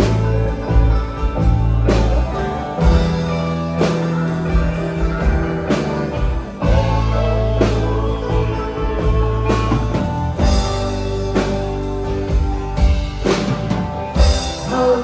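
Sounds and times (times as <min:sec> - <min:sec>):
drum kit strikes: 0:00.0 - 0:15.0
live rock band playing: 0:00.0 - 0:15.0.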